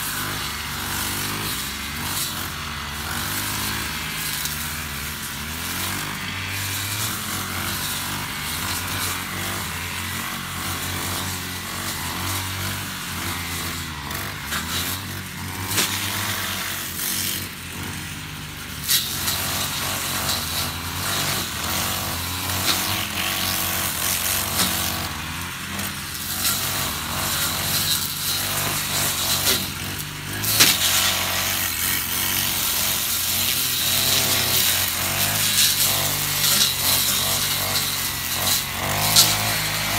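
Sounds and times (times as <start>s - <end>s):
brush cutter engine running: 0.0s - 39.9s
blade swishing through grass: 3.0s - 10.0s, 10.7s - 39.9s.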